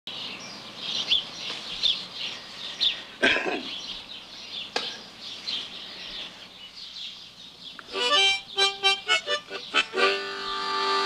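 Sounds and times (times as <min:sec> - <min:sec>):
birds chirping: 0:00.1 - 0:11.0.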